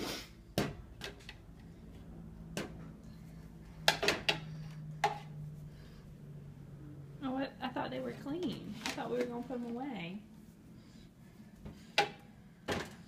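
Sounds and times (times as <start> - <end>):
low steady hum: 0.2 - 13.0.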